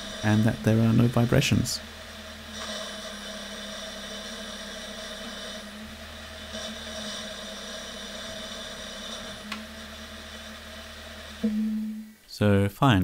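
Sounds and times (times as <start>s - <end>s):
hissing intake noise: 0.0s - 12.1s.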